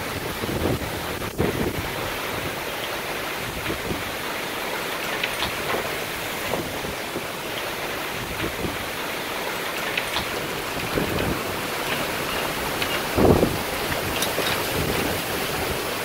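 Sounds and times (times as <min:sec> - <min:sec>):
hail and rain hissing: 0:00.0 - 0:16.0
hailstones ticking on surfaces: 0:00.0 - 0:16.0
strong wind: 0:00.0 - 0:16.0.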